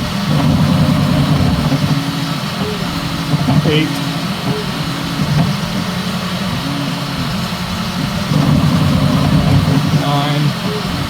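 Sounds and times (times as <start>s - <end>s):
printer motors whining: 0.0s - 11.0s
steady noisy hum: 0.0s - 11.0s.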